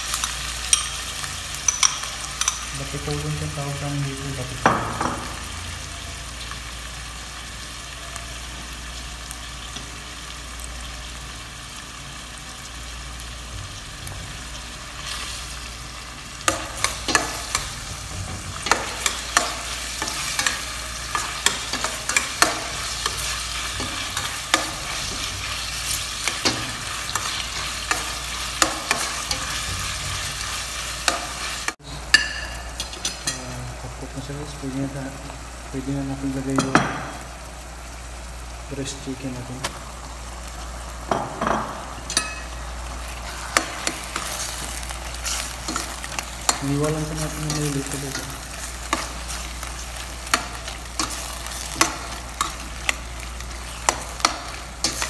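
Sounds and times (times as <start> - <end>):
onion and garlic sizzling: 0.0 - 55.0.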